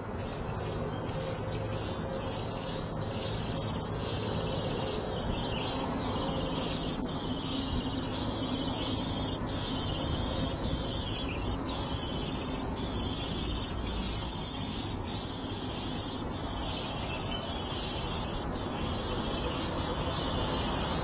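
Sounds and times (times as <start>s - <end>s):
high-pitched insect trill: 0.0s - 21.0s
nestlings chirping: 1.0s - 20.9s.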